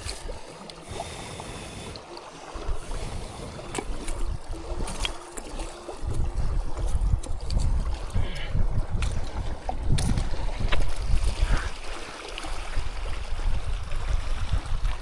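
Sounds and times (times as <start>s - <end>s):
wind buffeting microphone: 2.5s - 15.0s.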